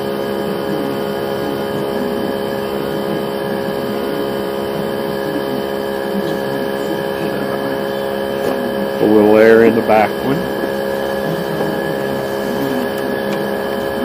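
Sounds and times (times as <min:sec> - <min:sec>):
electric air compressor humming: 0:00.0 - 0:14.0.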